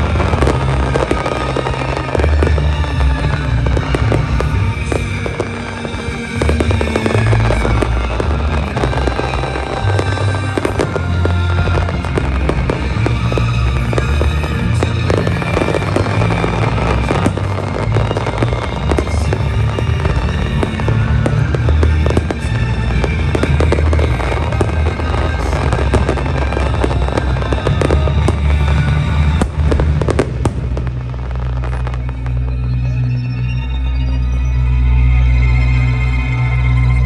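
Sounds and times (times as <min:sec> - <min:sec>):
fireworks bursting and crackling: 0:00.0 - 0:33.9
loud music with heavy bass: 0:00.0 - 0:37.0.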